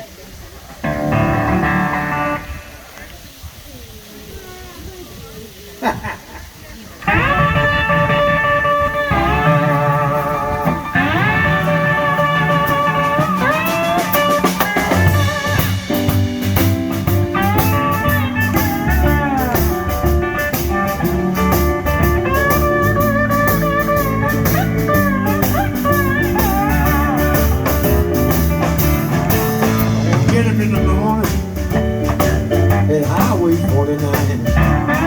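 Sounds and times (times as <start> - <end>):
bending lead guitar line: 0.8 - 2.8, 7.0 - 35.0
electric blues band playing: 0.8 - 3.0, 7.0 - 35.0.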